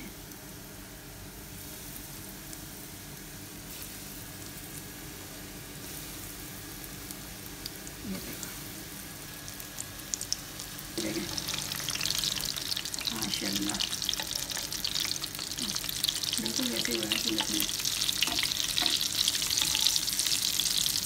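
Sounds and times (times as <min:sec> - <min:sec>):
food frying in oil: 0:00.0 - 0:21.0.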